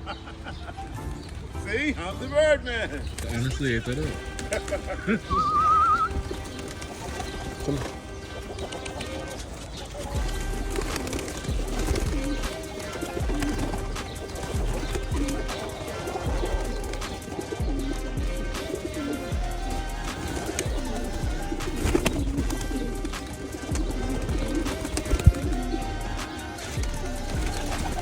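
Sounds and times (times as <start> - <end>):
background music: 0.0 - 28.0
pigeons cooing: 0.0 - 28.0.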